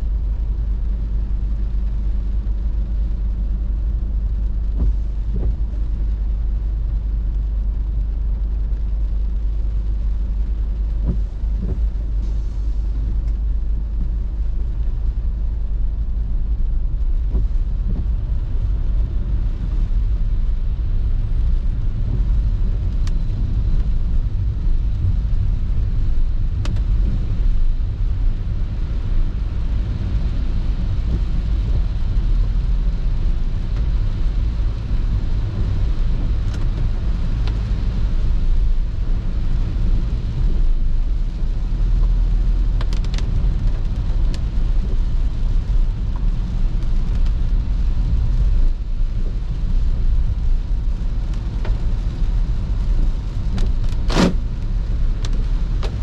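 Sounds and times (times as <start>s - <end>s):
car engine and tyres rumble: 0.0s - 56.0s.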